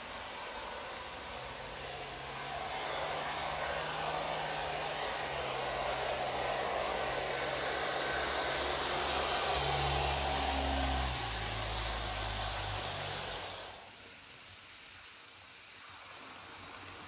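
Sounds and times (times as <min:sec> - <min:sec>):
low hum: 0:00.0 - 0:13.9
wheels rumbling on rail: 0:00.0 - 0:14.0
model train motors whirring: 0:00.0 - 0:17.0.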